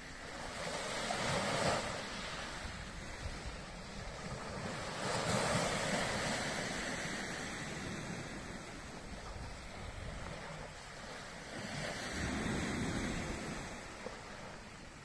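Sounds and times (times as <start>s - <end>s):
waves breaking on shore: 0.0s - 15.0s.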